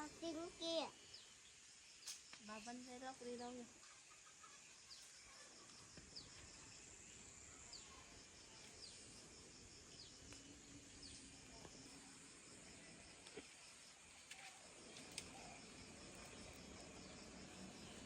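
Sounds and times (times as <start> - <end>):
insects chirping chorus: 0.0 - 18.0.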